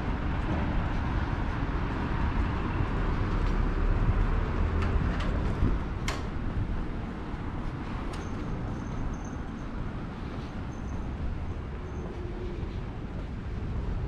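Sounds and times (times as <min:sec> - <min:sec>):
cars passing on road: 0:00.0 - 0:14.0.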